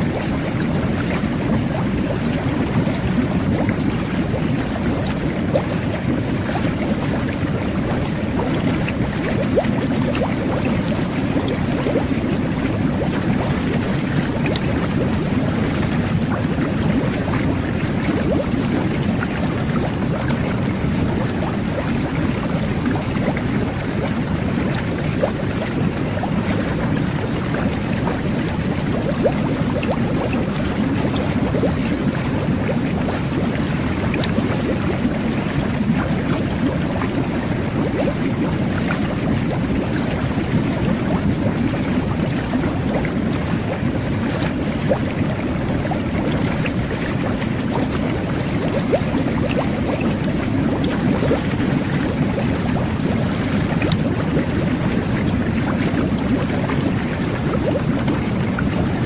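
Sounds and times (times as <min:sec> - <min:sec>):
bubbles popping: 0:00.0 - 0:59.0
water jets churning and bubbling: 0:00.0 - 0:59.0.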